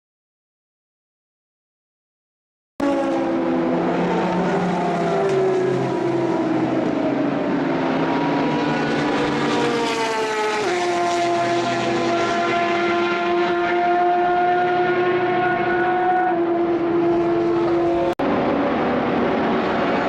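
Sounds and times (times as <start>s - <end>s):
race car engine revving high: 2.8s - 20.0s.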